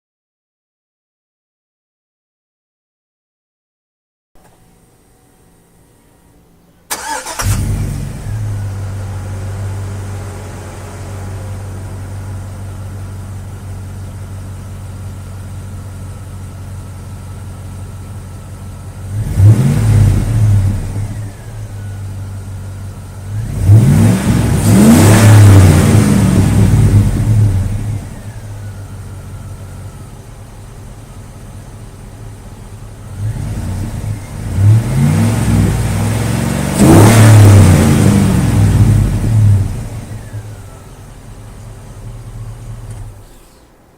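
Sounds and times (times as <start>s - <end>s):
pickup engine idling and revving: 6.9s - 43.9s.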